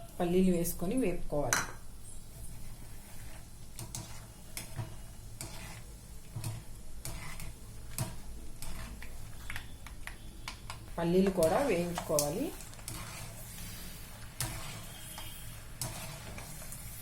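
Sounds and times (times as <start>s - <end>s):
faint frying in oil: 0.0s - 17.0s.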